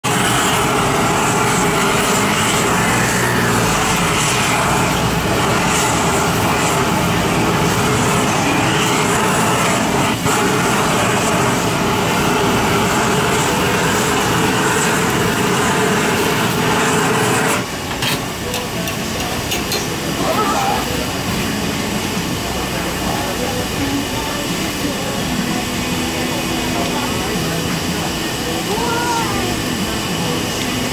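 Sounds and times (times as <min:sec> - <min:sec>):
blowtorch hissing: 0:00.0 - 0:30.9.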